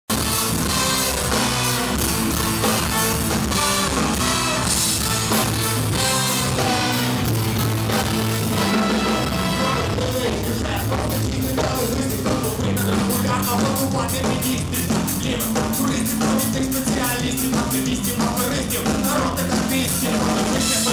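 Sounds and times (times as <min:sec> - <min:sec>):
fast drum beat: 0:00.1 - 0:20.9
ska-punk band playing: 0:00.1 - 0:20.9.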